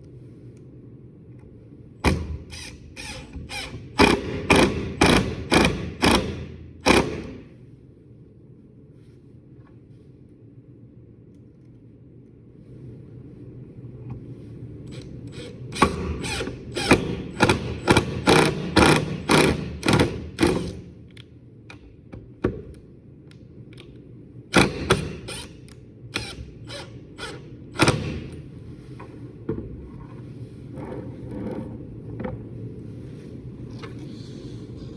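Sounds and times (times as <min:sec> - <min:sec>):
low background rumble: 0:00.0 - 0:34.9.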